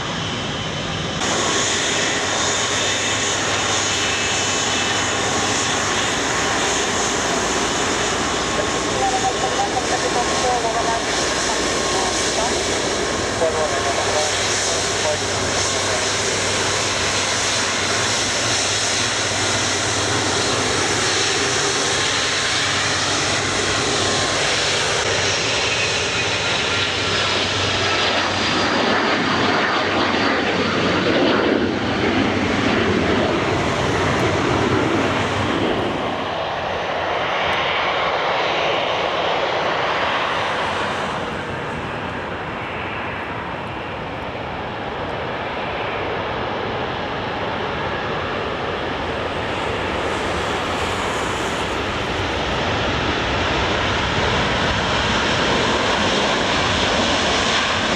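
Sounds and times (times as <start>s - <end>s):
jet airliner engines passing: 0.0s - 57.9s.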